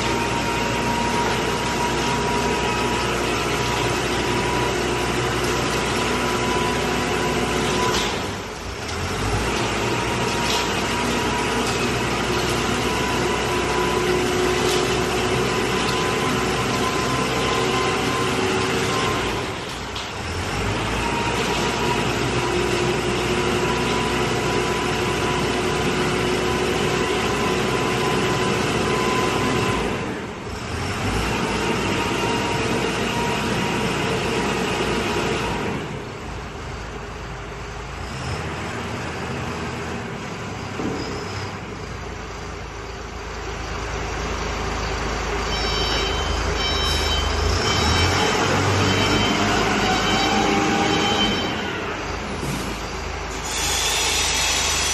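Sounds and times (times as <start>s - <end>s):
concrete mixer engine running: 0.0s - 54.9s.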